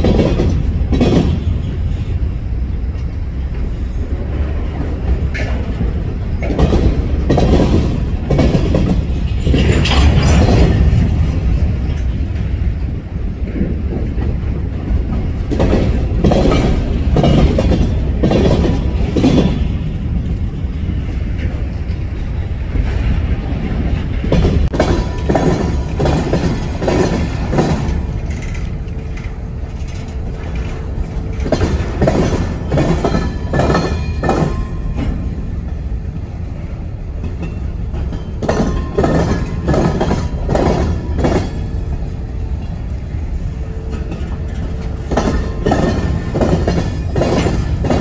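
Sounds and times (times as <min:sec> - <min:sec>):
freight train rumble: 0:00.0 - 0:48.0
train wheels clicking over rail joints: 0:00.0 - 0:48.0.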